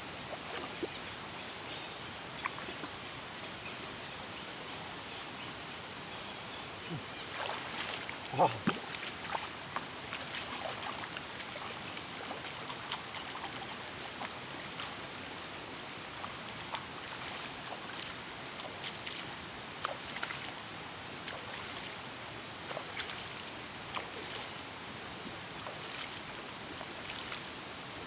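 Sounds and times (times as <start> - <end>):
small splashes and ticks: 0.2 - 1.4, 2.3 - 3.6, 7.2 - 27.9.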